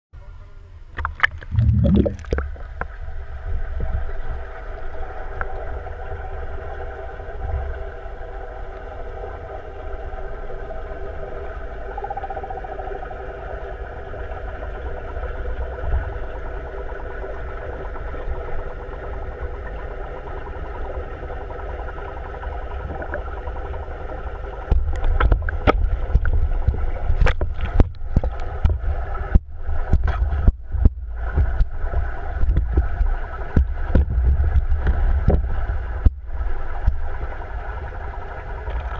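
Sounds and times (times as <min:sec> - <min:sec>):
aquarium pump hum under water: 0:00.2 - 0:38.9.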